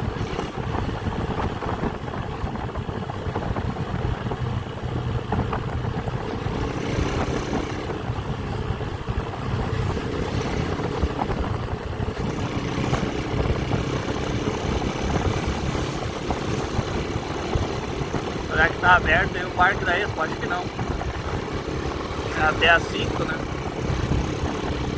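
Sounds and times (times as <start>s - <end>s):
motorcycle engine running: 0.0s - 24.9s
road noise: 0.0s - 24.9s.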